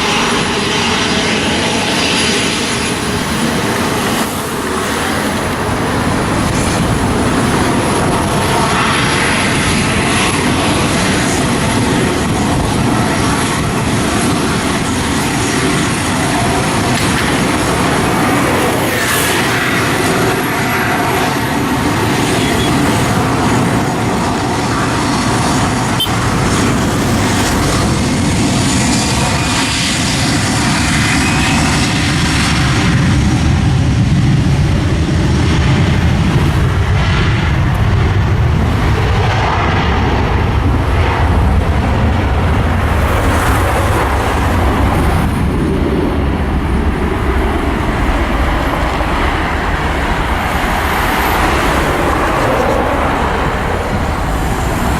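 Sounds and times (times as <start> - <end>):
jet airliner engines rumbling: 0.0 - 54.9.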